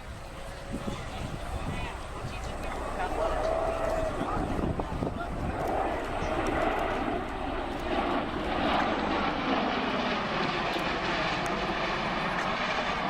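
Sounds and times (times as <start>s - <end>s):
tilt-rotor aircraft flying past: 0.0s - 13.0s.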